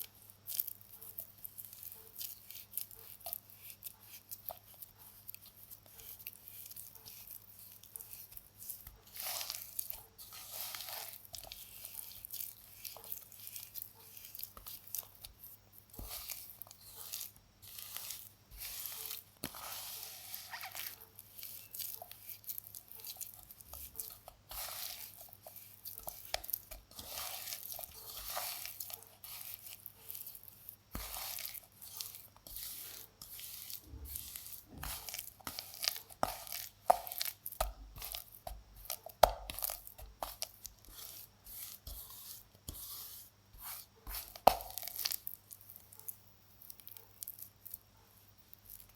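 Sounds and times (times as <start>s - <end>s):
baking soda crunching and crackling: 0.0s - 48.9s.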